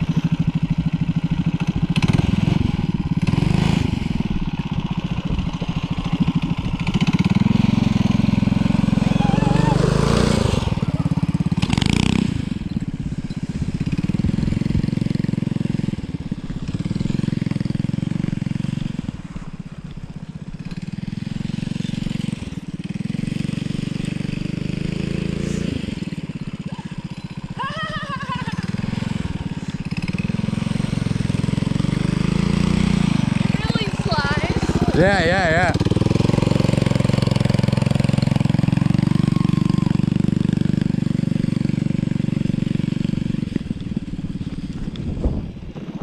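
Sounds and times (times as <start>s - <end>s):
small engine revving: 0.0s - 46.0s.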